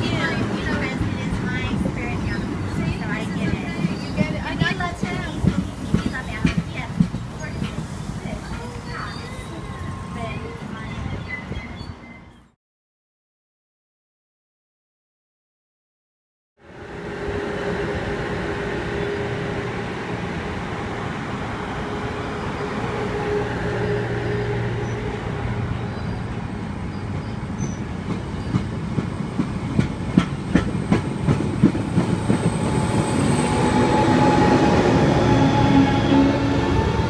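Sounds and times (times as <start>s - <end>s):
train wheels rumbling on rail: 0.0s - 12.0s, 16.6s - 37.0s
diesel locomotive engine hum: 0.0s - 12.5s, 16.6s - 37.0s.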